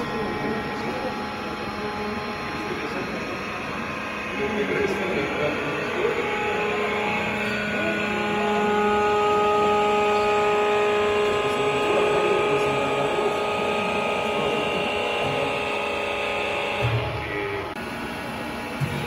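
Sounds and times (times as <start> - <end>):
hydraulic press machine humming: 0.0 - 19.0.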